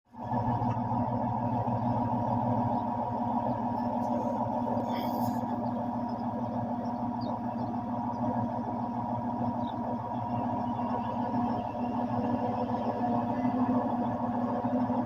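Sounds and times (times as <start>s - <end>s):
heavy machinery engine running: 0.1s - 15.0s.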